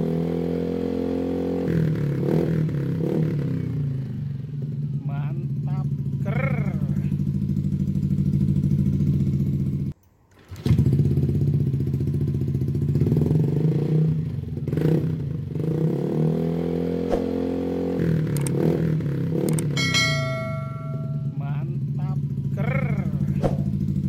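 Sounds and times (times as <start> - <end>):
scooter engine idling and revving: 0.0 - 24.0.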